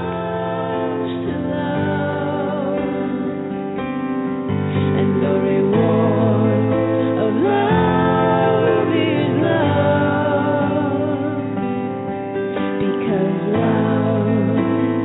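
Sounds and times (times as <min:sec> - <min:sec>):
woman singing slow melody: 0:00.0 - 0:03.8, 0:04.7 - 0:11.9, 0:12.8 - 0:15.0
gentle acoustic guitar: 0:00.0 - 0:15.0.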